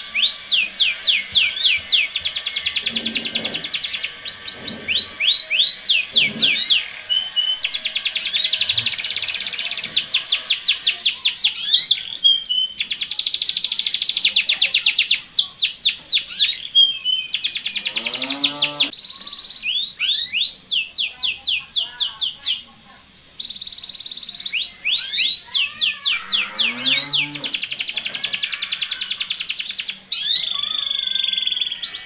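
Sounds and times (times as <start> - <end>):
canaries trilling: 0.0 - 32.0.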